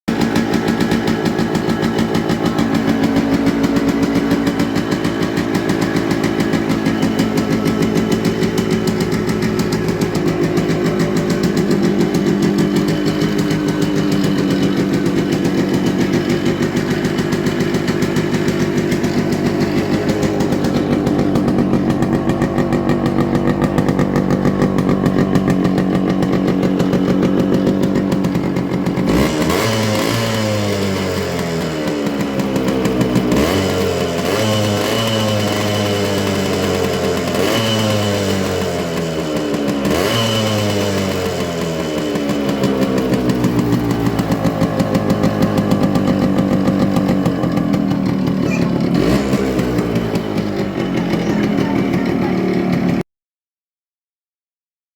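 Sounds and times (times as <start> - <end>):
two-stroke motorcycle engine running: 0.0 - 53.0.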